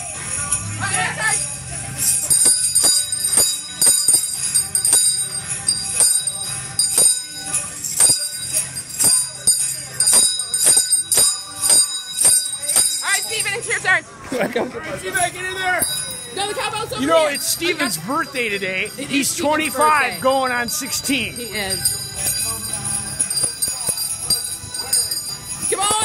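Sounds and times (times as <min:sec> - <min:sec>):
handbell ringing: 0:00.0 - 0:13.9, 0:15.6 - 0:26.0.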